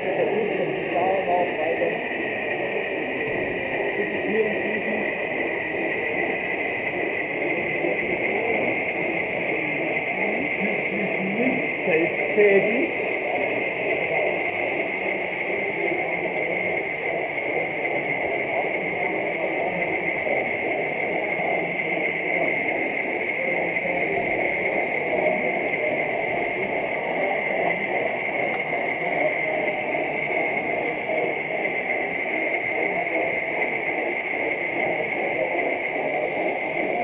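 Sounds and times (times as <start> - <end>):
high motor whine: 0.0 - 37.0
model train whirring: 0.0 - 37.0.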